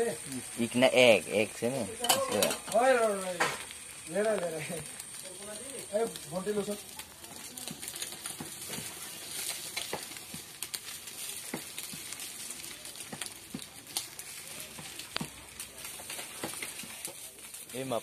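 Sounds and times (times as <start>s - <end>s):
egg sizzling in oil: 0.0s - 18.0s.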